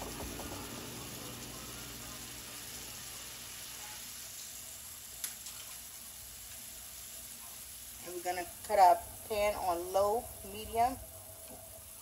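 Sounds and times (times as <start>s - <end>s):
vegetables sizzling in pot: 0.0s - 12.0s.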